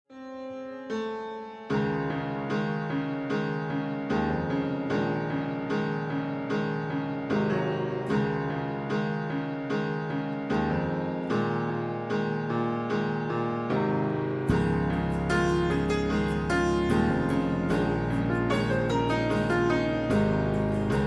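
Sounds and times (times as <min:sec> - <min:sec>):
piano piece: 0:00.1 - 0:21.0.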